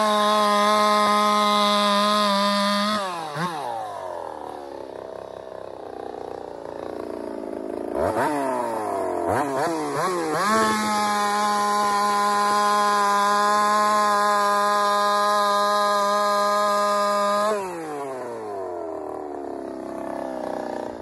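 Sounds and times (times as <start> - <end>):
chainsaw engine revving and cutting: 0.0 - 21.0.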